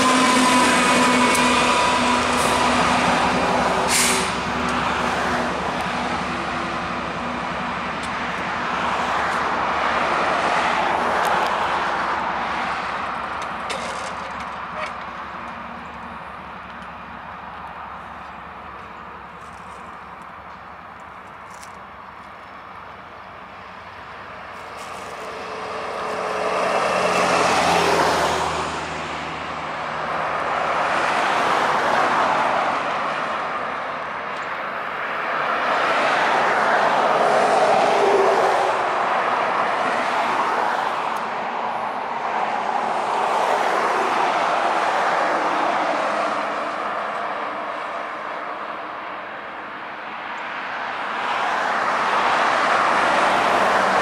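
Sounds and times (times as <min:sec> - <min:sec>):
vehicles passing close by: 0:00.0 - 0:54.0.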